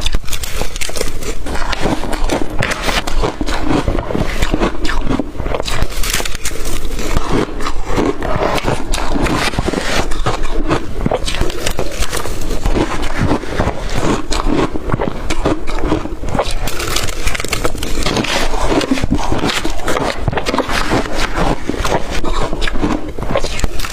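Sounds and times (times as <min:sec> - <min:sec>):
chewing crushed ice: 0:00.0 - 0:23.9.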